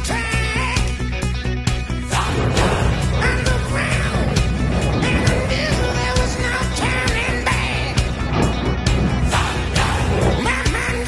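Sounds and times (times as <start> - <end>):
loud rock music: 0.0 - 11.0.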